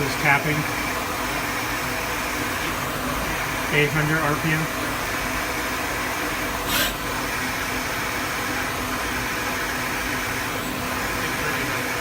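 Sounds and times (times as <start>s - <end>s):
machine hissing: 0.0s - 12.0s.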